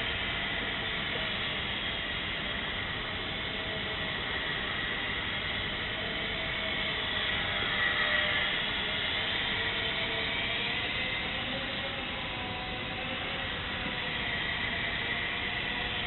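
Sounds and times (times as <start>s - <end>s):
small electric motor whine: 0.0s - 16.0s.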